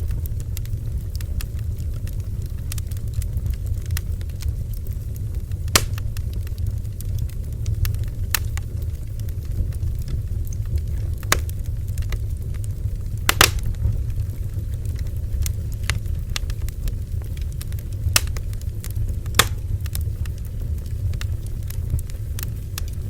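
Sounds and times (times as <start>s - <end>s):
bonfire low rumble: 0.0s - 23.0s
burning wood crackling and popping: 0.0s - 23.0s.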